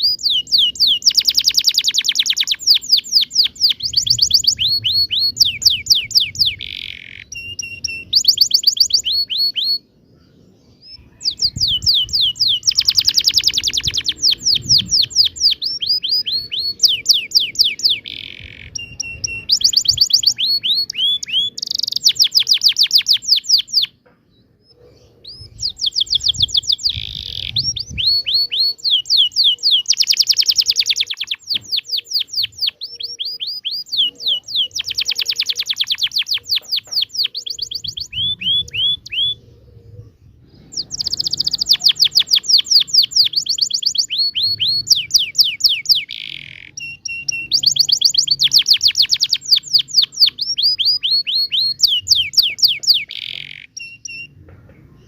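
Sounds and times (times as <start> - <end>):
canary singing trills: 0.0 - 54.4.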